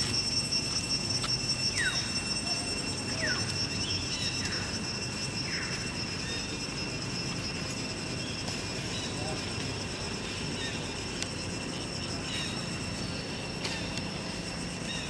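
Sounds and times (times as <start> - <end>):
shrill insect drone: 0.0 - 15.0.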